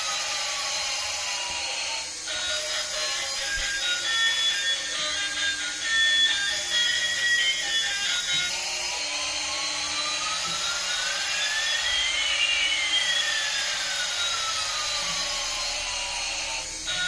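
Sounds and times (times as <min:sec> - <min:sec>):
gliding whistling tones: 0:02.2 - 0:17.0.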